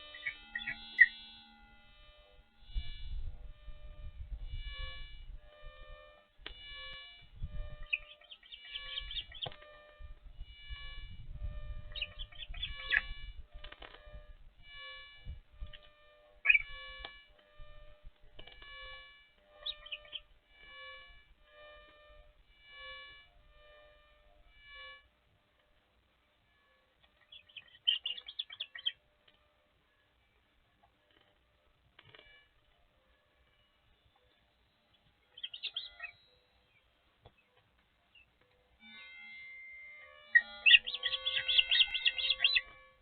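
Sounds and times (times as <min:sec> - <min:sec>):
osprey chirps: 0:00.0 - 0:25.1, 0:26.5 - 0:29.4, 0:32.0 - 0:43.0
pulsing pitched hum: 0:00.0 - 0:43.0.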